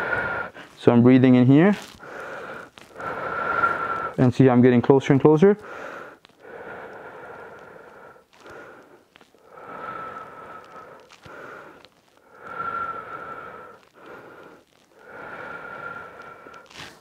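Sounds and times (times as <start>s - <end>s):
man breathing slowly: 0.0s - 4.3s, 5.5s - 17.0s.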